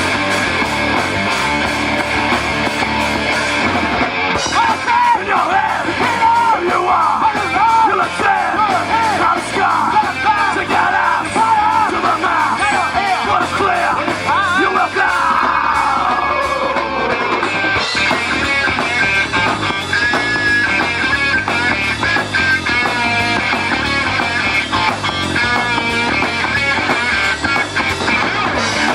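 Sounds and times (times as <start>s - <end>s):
bending lead guitar line: 0.0s - 28.9s
live rock band playing: 0.0s - 28.9s.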